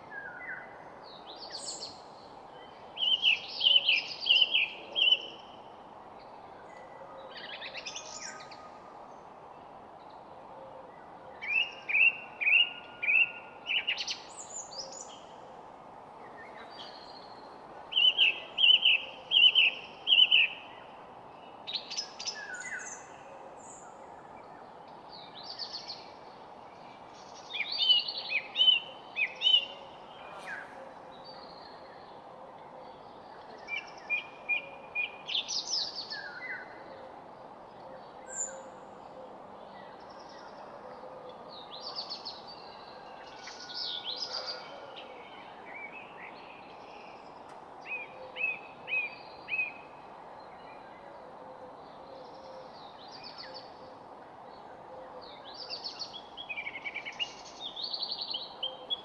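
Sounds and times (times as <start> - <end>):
steady background hiss: 0.0 - 44.3, 44.9 - 59.0.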